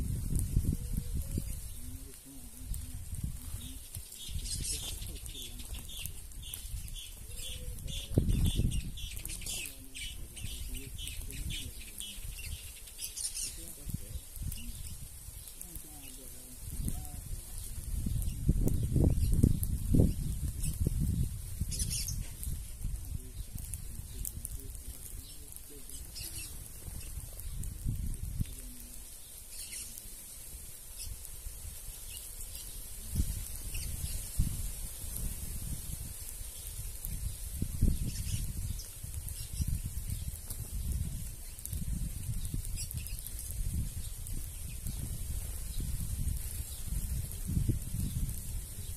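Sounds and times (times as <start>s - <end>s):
birds chirping: 0.3s - 48.9s.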